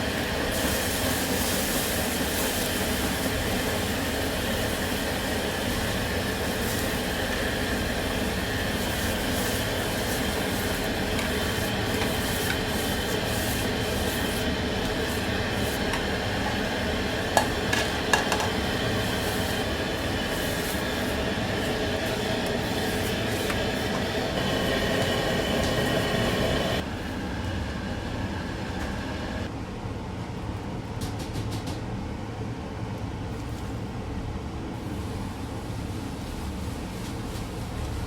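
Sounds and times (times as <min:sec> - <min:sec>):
kitchen exhaust fan roar: 0:00.0 - 0:38.0.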